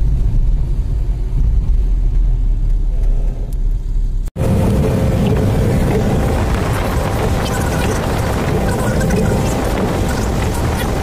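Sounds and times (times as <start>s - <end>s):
noisy ride sound with hum: 0.0s - 11.0s
vehicle rumble from inside cabin: 0.0s - 11.0s.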